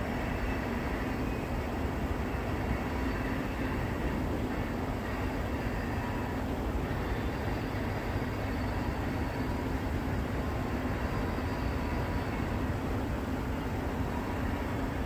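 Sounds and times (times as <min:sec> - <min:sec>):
distant freight train rumbling: 0:00.0 - 0:15.0.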